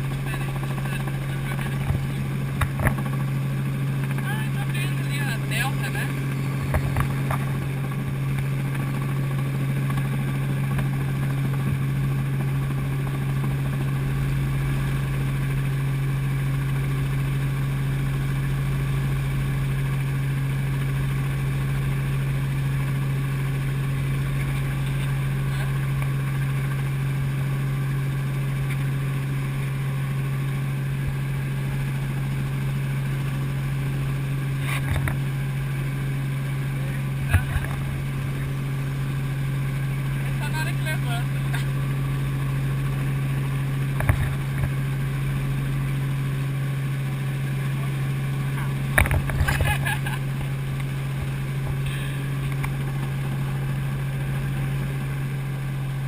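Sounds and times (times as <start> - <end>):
deep rumble: 0.0 - 56.0
helicopter drone: 0.0 - 56.0.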